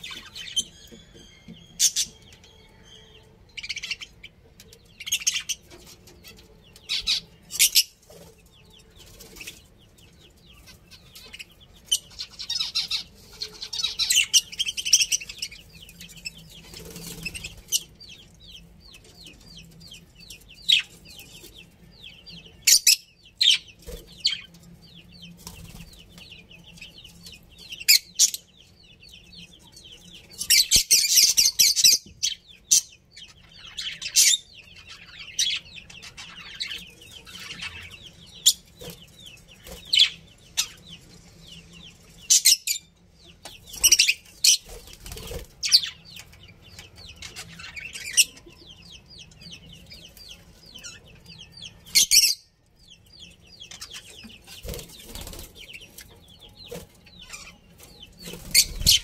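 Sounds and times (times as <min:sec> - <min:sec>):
budgerigars chirping: 0:00.0 - 0:52.5, 0:53.1 - 0:59.0.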